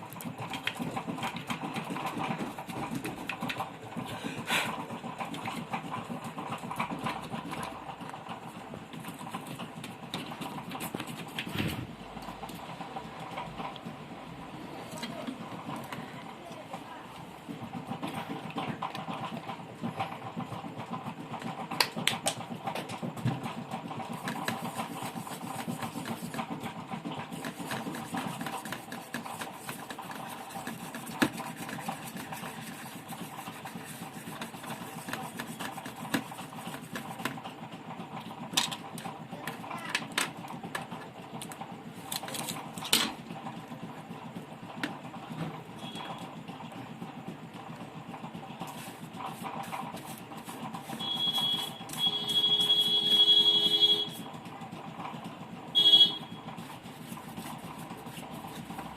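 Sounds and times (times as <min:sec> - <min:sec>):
steady background hum: 0:00.0 - 0:58.9.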